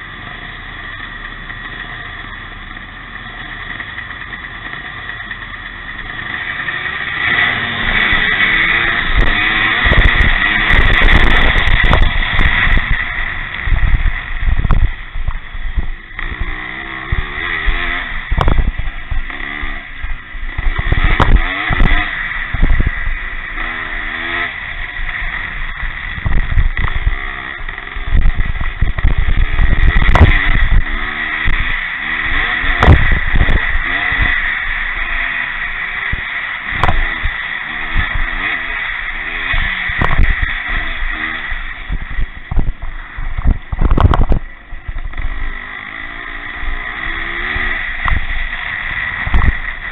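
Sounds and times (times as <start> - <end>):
motocross motorcycles revving: 0.0 - 49.9.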